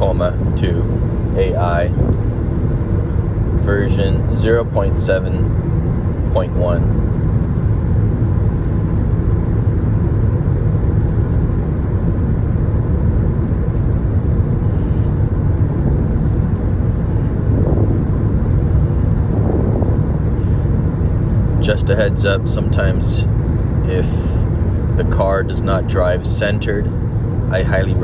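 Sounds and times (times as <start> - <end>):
road and tyre noise: 0.0 - 28.0.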